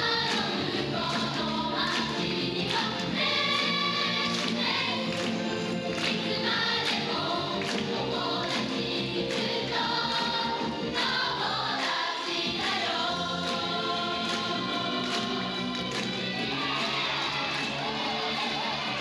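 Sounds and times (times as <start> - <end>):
backing music with steady beat: 0.0 - 19.0
chorus singing: 0.0 - 19.0.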